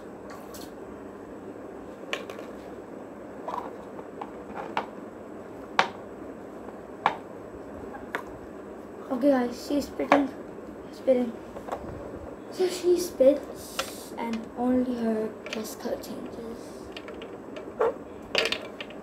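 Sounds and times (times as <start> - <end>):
room noise hiss: 0.0 - 19.0.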